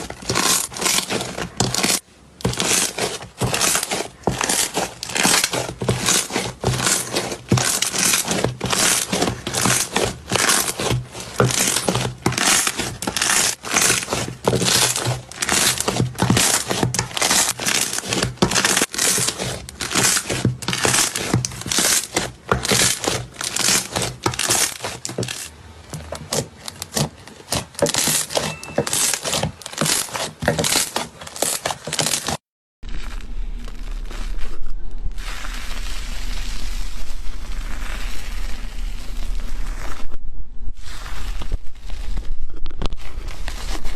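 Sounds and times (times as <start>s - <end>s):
slime crackling and popping: 0.0s - 40.1s, 40.8s - 43.9s.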